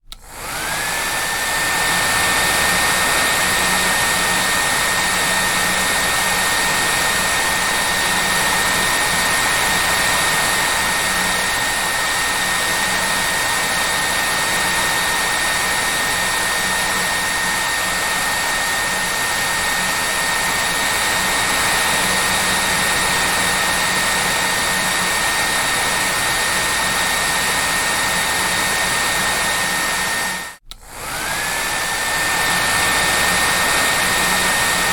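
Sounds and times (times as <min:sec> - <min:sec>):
hair dryer motor whine: 0:00.0 - 0:34.9.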